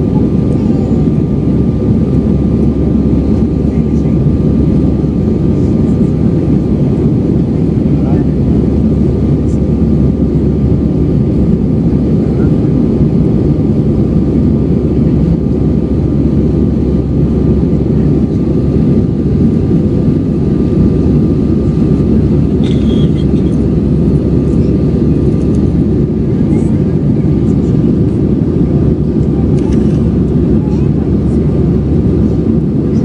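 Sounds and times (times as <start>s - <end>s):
airliner engines roaring in cabin: 0.0s - 33.0s
faint steady whine: 0.0s - 33.0s.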